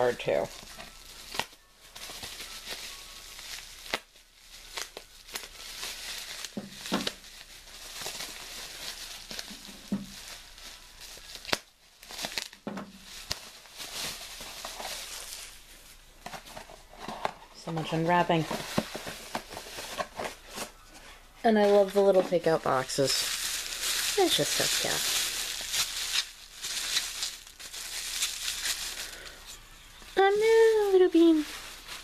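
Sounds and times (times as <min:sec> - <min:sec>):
packaging crinkling and tearing: 0:00.0 - 0:32.0.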